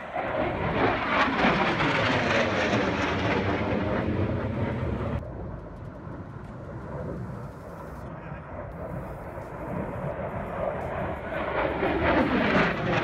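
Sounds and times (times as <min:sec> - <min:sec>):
aircraft roaring past overhead: 0:00.0 - 0:13.0
distant aircraft drone: 0:00.0 - 0:13.0.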